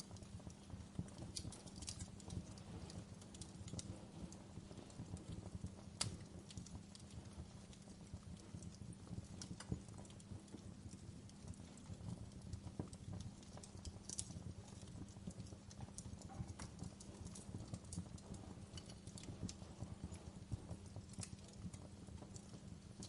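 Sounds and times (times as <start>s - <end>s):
low rumble of flames: 0.0s - 23.0s
wood crackling and popping: 0.0s - 23.0s.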